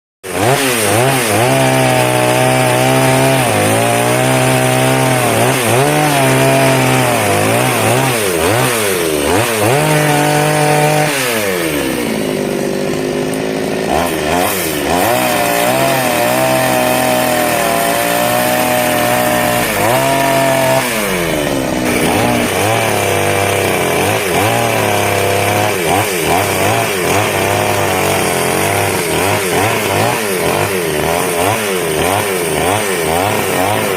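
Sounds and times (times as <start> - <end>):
chainsaw cutting wood: 0.2 - 33.9.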